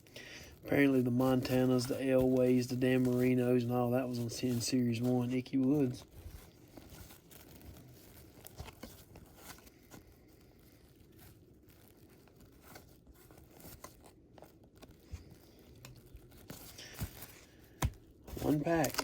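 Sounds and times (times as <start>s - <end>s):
cards and wrappers crinkling: 0.0s - 19.0s.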